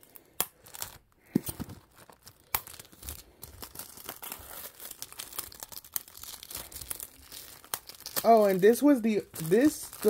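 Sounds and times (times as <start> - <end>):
plastic wrap tearing and crinkling: 0.0 - 10.0.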